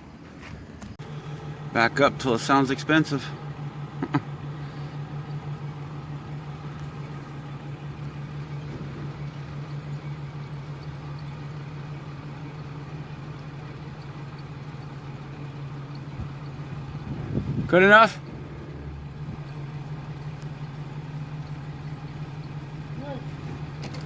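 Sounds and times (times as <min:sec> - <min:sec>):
vehicle engine running low: 0:00.0 - 0:24.0.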